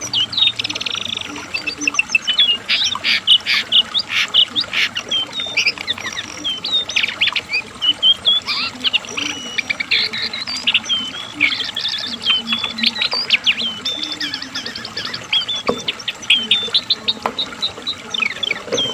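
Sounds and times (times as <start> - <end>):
bird singing rapid chirps: 0.0 - 18.9.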